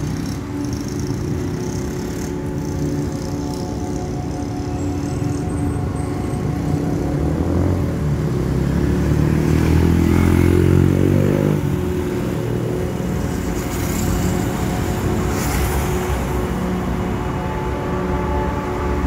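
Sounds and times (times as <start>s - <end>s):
motorcycle passing: 0.0s - 17.0s
cars passing: 0.0s - 19.0s
traffic rumble: 0.0s - 19.0s.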